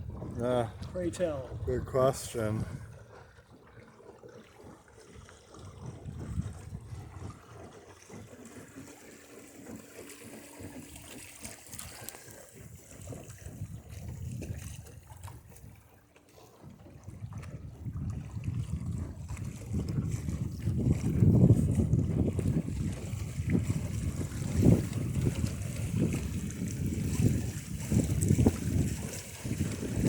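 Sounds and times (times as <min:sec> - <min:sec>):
water gurgling against hull: 0:00.0 - 0:30.0.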